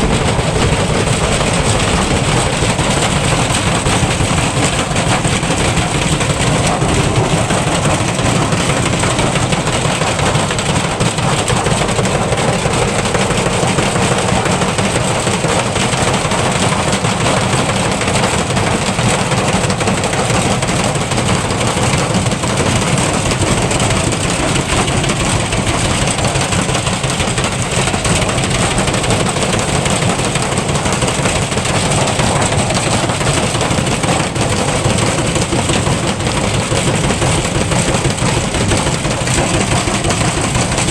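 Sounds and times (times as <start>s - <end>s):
washing machine rumbling and rattling: 0.0s - 40.9s.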